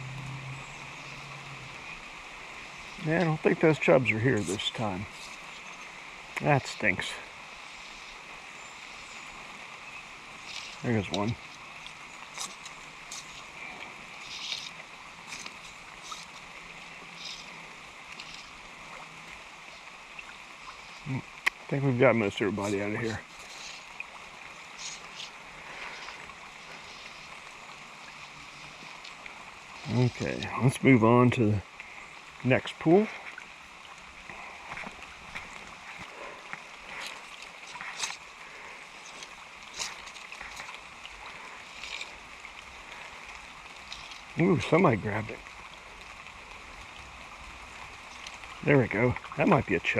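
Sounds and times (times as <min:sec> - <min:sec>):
creek running: 0:00.0 - 0:49.9.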